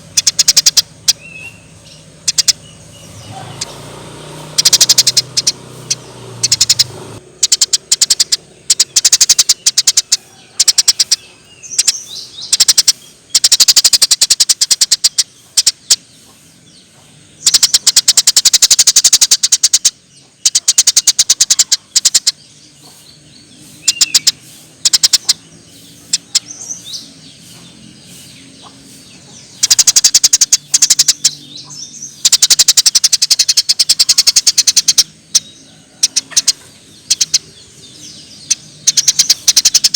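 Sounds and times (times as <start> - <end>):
sparrow chattering chirps: 0.0 - 39.9.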